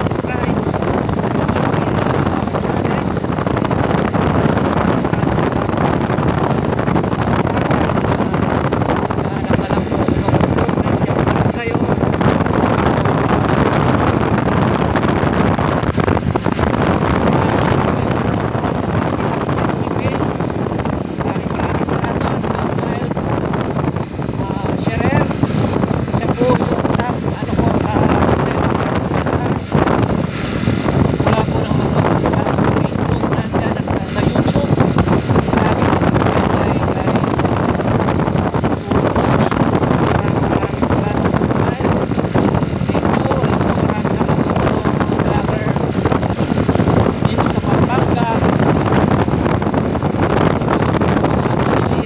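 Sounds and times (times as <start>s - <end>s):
road noise: 0.0s - 52.0s
wind rushing over microphone: 0.0s - 52.0s.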